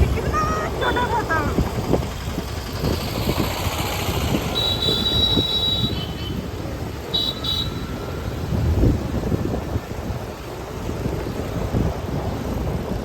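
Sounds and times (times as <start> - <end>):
road rumble: 0.0 - 13.0
wind buffeting microphone: 0.0 - 13.0.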